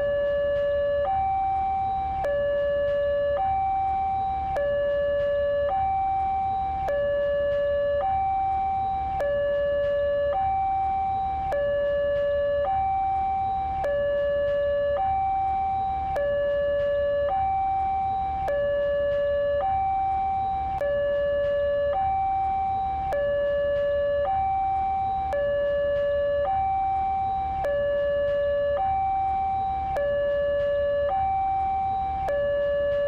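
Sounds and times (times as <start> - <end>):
low hum: 0.0 - 33.0
two-tone electronic siren: 0.0 - 33.0.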